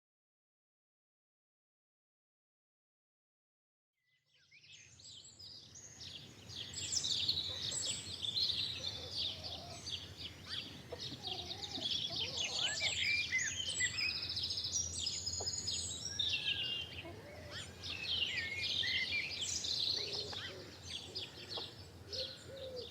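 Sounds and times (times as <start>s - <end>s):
songbirds chirping and trilling: 4.1s - 22.9s.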